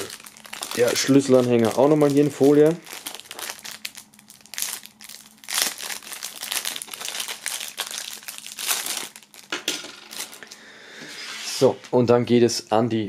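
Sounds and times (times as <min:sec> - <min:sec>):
plastic foil crinkling: 0:00.0 - 0:10.7.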